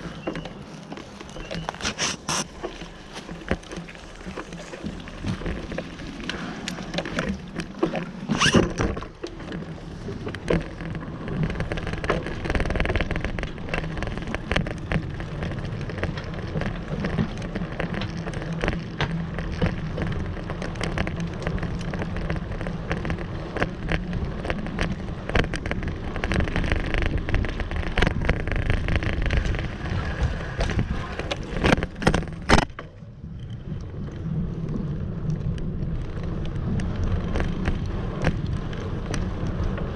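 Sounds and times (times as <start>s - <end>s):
bicycle rumbling and rattling: 0.0s - 39.9s
small clicks: 0.0s - 39.9s.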